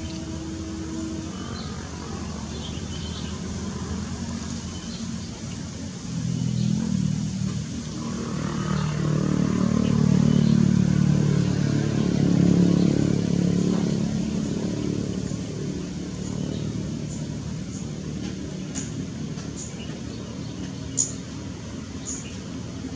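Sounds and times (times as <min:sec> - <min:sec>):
vehicle engine passing by: 0:00.0 - 0:22.9.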